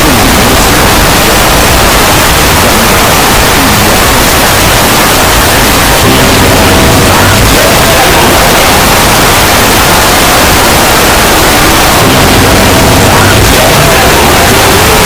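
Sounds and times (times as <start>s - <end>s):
loud distorted static noise: 0.0s - 15.0s.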